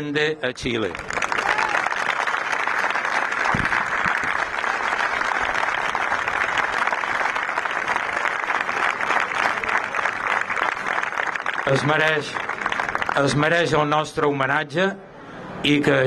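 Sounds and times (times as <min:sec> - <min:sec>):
crowd applauding: 0:00.7 - 0:13.9.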